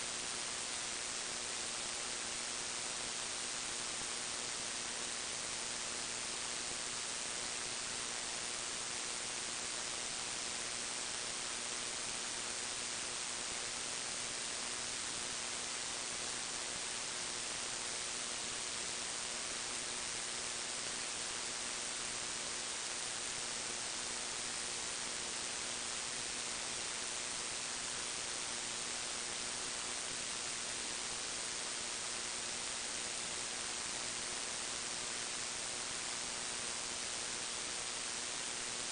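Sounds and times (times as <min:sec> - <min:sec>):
faint steady hum: 0:00.0 - 0:38.9
recording hiss: 0:00.0 - 0:38.9.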